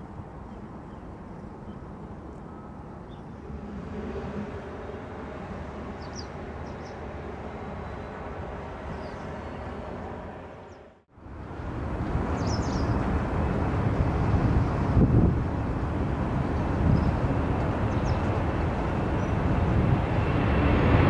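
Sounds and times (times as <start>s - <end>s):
jet engines rumbling: 0.3s - 21.0s.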